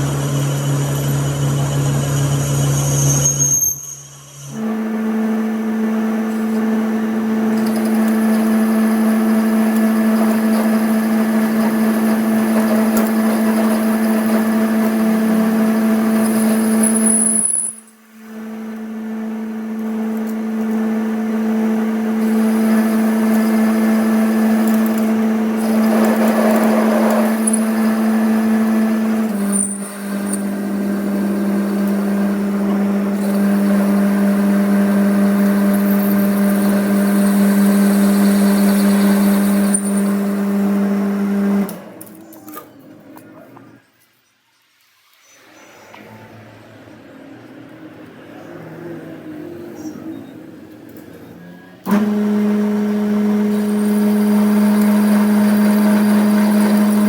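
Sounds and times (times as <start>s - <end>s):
machine motor humming: 0.0s - 3.0s, 4.3s - 43.9s, 45.4s - 57.0s.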